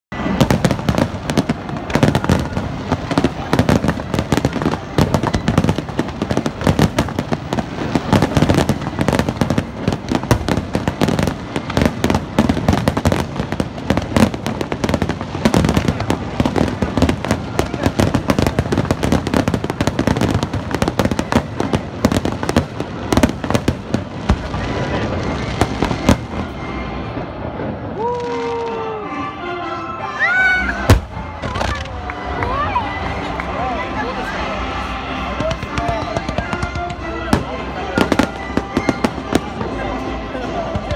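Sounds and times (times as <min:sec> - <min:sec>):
fireworks bangs and crackles: 0:00.1 - 0:29.8, 0:30.7 - 0:40.9.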